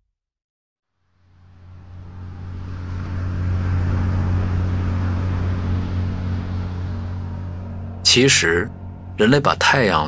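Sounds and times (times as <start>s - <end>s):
deep engine-like hum: 0.8s - 10.0s.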